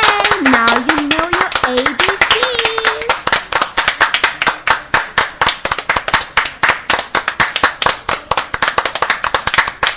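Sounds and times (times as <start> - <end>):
children clapping: 0.0 - 9.9.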